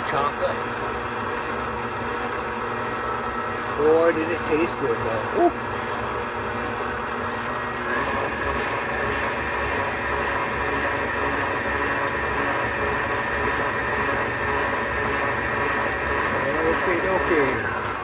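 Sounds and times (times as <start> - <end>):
electric mixer motor humming: 0.0 - 18.0.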